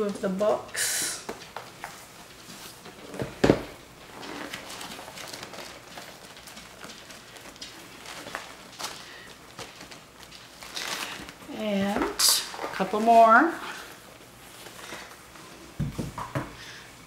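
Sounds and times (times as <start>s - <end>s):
fabric swatches rustling and flapping: 1.2s - 16.4s.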